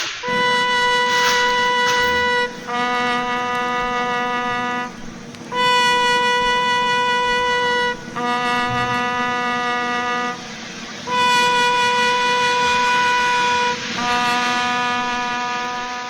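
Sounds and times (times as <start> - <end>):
horn long two-pitch notes: 0.2 - 16.0.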